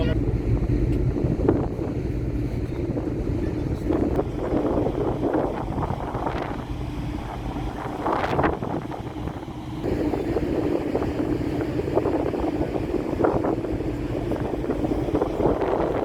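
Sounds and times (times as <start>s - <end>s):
ferry engines droning: 0.0s - 16.0s
wind gusting on microphone: 0.0s - 16.0s.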